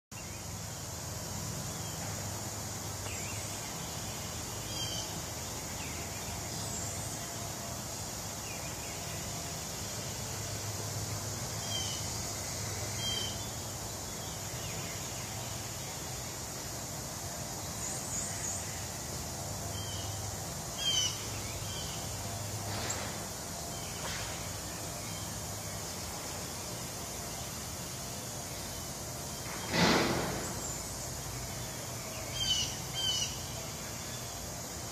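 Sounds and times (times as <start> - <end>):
steady high hiss: 0.1 - 34.9
birds chirping: 1.2 - 34.9.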